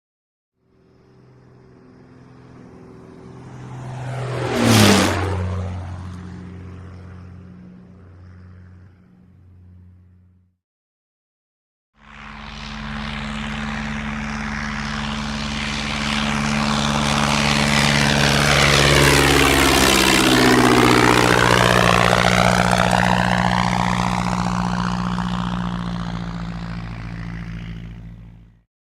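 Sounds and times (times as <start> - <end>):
propeller airplane flying past: 0.6 - 10.6, 12.0 - 28.6.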